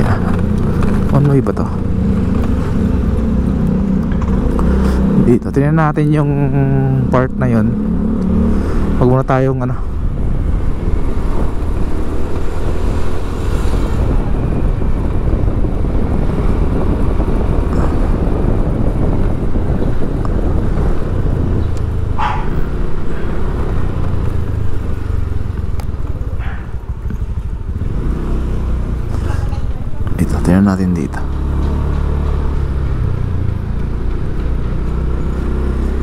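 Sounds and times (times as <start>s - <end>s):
road vehicle rumble: 0.0s - 36.0s.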